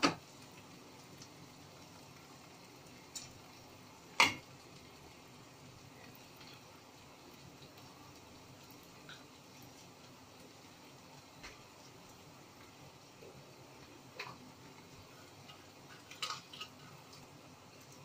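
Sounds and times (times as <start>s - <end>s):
faint cooking hiss: 0.0s - 18.0s.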